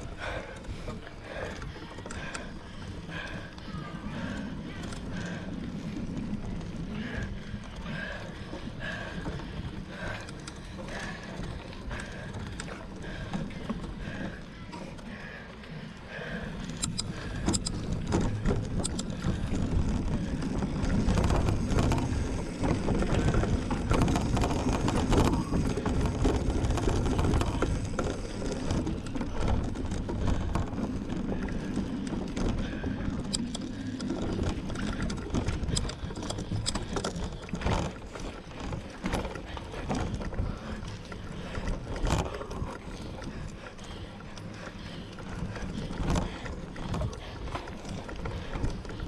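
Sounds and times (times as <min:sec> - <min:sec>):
mountain bike rattling off-road: 0:00.0 - 0:49.0.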